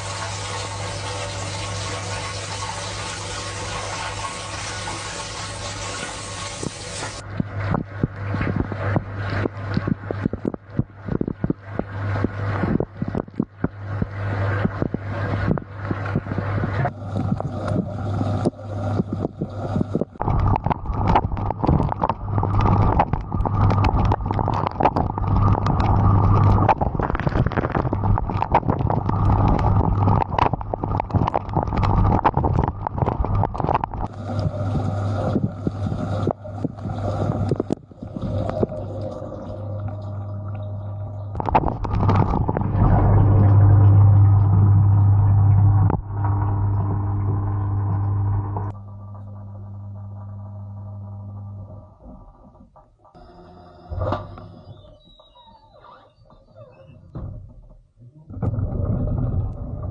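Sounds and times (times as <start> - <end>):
wash pump hum: 0.0 - 59.9.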